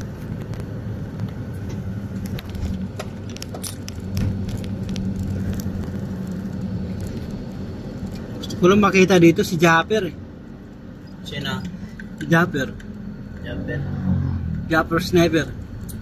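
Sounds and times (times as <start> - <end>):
vehicle engine drone: 0.0 - 16.0.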